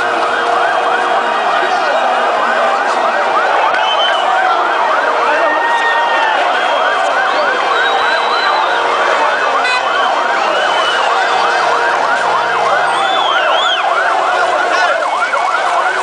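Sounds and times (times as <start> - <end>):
police siren yelping: 0.0 - 16.0
street crowd din: 0.0 - 16.0.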